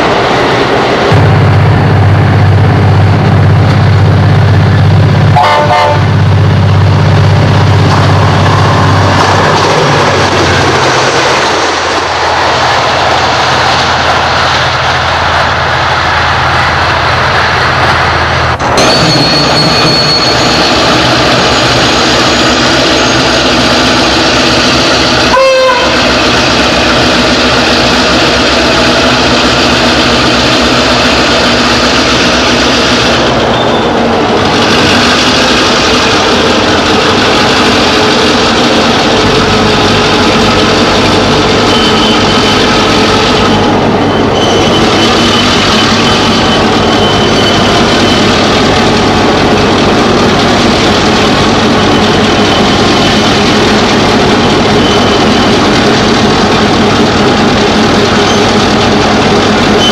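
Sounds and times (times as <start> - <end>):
diesel locomotives passing: 0.0 - 59.9.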